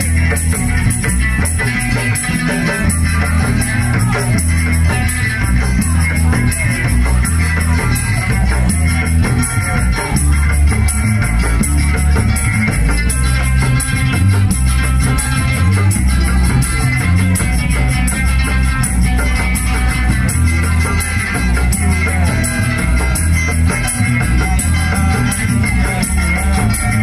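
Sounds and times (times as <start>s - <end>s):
band playing plucked strings: 0.0s - 27.0s
bass line: 0.0s - 27.0s
percussion beat: 0.0s - 27.0s.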